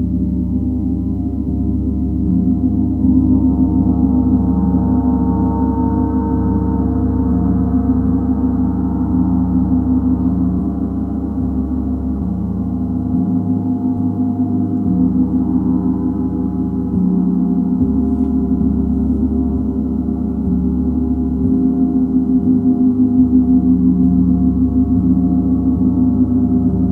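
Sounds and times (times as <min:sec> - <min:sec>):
low hum: 0:00.0 - 0:26.9.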